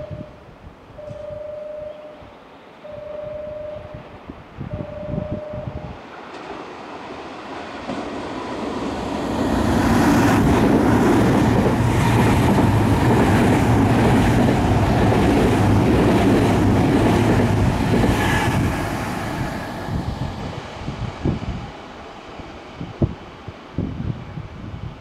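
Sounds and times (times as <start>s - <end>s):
electric train running past: 1.0s - 25.0s.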